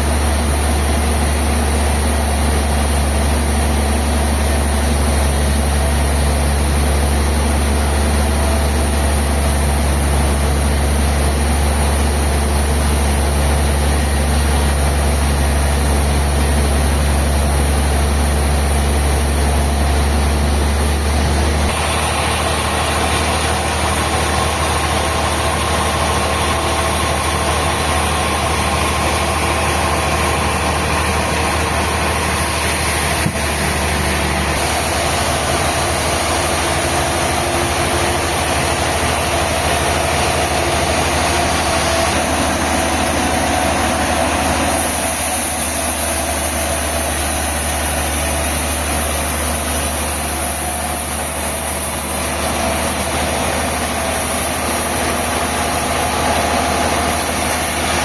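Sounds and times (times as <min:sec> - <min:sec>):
sawmill machinery engine drone: 0:00.0 - 0:58.0.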